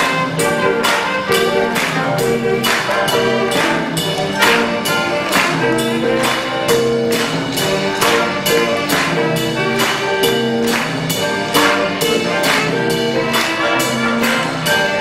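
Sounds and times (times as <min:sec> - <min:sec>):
concert band playing: 0:00.0 - 0:15.0
percussion strikes: 0:00.0 - 0:15.0.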